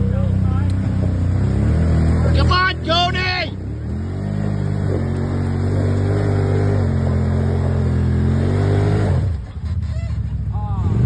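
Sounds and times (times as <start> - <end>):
atv engine under load: 0.0 - 11.0.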